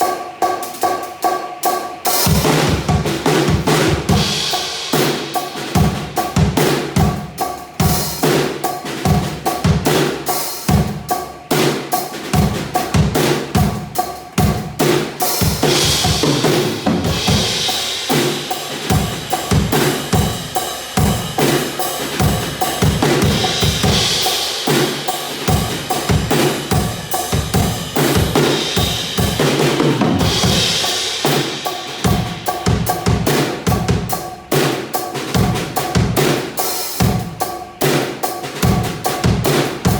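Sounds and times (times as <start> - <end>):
cymbal crashes: 0.0 - 9.4, 13.6 - 37.4
bass drum and snare groove: 0.0 - 39.9.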